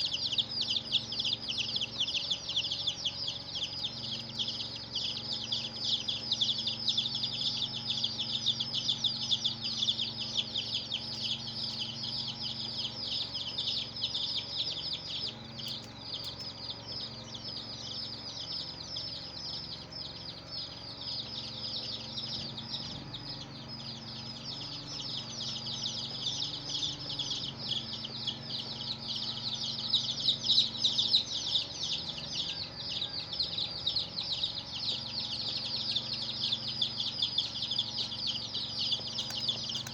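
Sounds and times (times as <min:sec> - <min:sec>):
chicks peeping: 0:00.0 - 0:39.9
low steady hum: 0:00.0 - 0:39.9.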